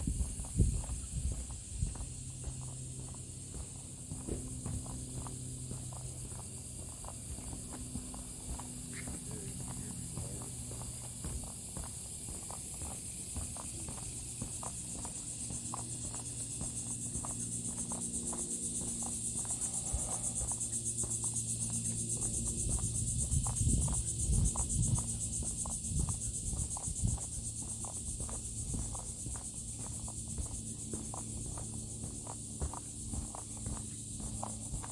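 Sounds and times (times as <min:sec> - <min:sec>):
footsteps on wooden boardwalk: 0:00.0 - 0:34.9
pulsing insect chorus: 0:00.0 - 0:34.9.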